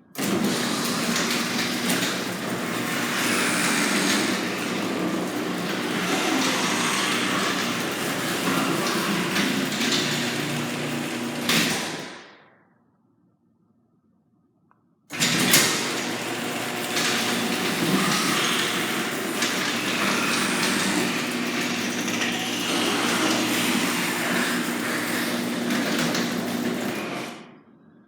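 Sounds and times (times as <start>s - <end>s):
garage door opener motor hum: 0.0s - 12.5s, 15.1s - 27.7s.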